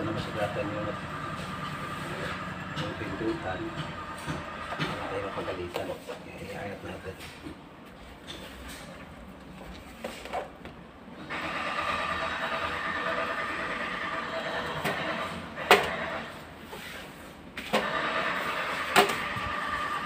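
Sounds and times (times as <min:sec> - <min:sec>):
mechanical whir with hum: 0:00.0 - 0:20.0.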